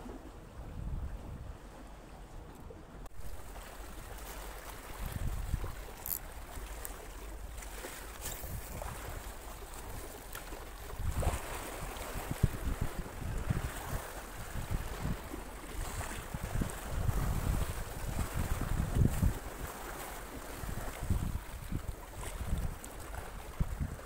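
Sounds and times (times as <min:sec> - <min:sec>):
wind buffeting microphone: 0:00.0 - 0:03.0, 0:04.0 - 0:24.0
waves lapping against rocks: 0:00.0 - 0:24.0.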